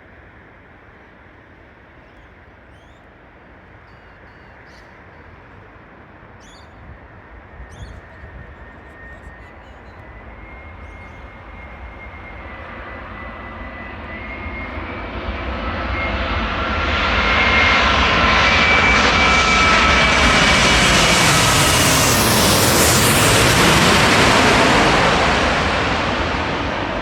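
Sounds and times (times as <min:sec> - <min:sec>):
high fan whine: 0:00.0 - 0:27.0
jet airliner approaching: 0:00.0 - 0:27.0.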